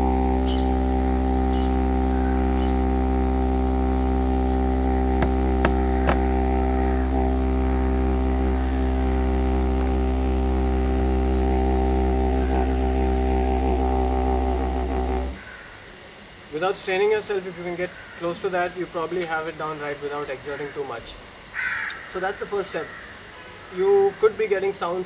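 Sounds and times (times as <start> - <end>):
didgeridoo drone: 0.0 - 21.1.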